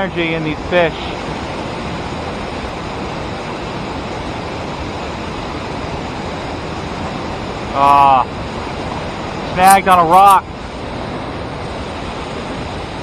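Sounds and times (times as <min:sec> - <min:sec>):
river water rushing over dam: 0:00.0 - 0:13.0.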